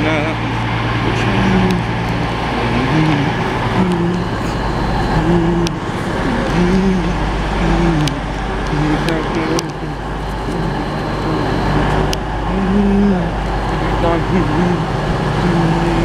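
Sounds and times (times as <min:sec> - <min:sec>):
diesel train engines droning: 0:00.0 - 0:16.0.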